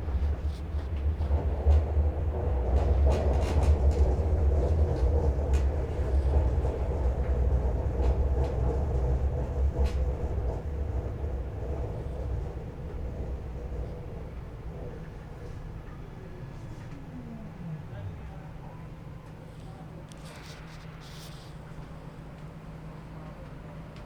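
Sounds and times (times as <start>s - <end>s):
tram rumble and hum: 0.0s - 24.0s.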